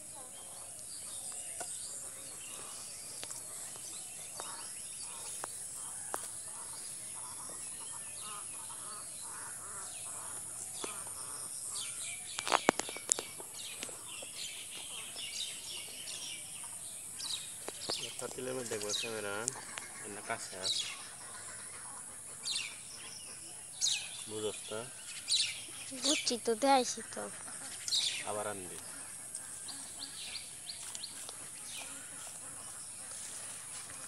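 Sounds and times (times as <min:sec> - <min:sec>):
birds calling: 0:00.0 - 0:34.0.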